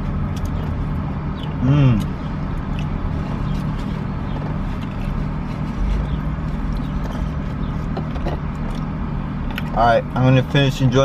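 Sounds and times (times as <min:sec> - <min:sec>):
fries crunching being eaten: 0:00.0 - 0:09.8.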